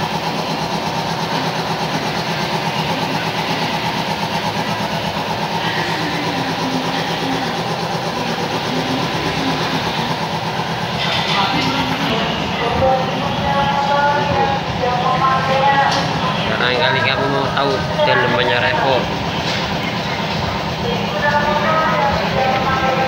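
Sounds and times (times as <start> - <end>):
small engine idling: 0.0 - 23.0.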